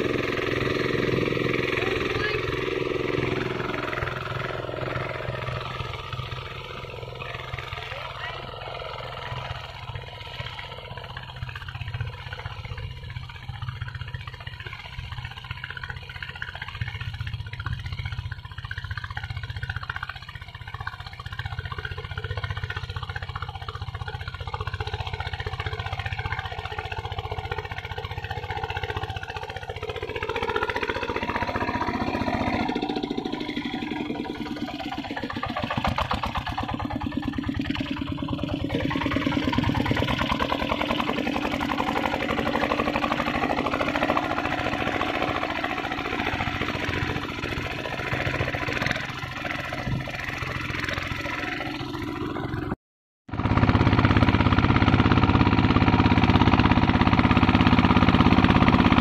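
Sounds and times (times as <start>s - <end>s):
hand tractor engine chugging: 0.0s - 52.7s.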